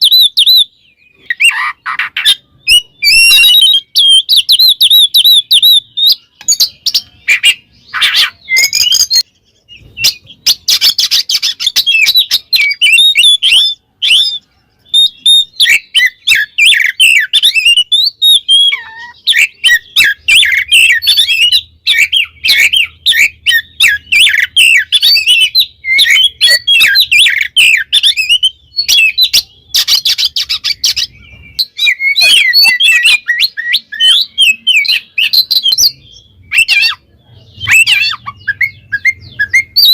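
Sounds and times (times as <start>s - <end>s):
songbird singing whistles: 0.0s - 39.9s.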